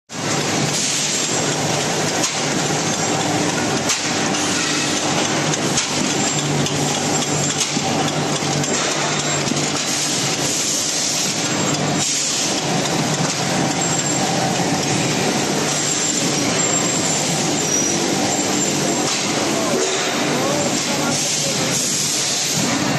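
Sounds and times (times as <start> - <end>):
industrial machinery noise: 0.1 - 22.9
machinery hum: 0.1 - 22.9.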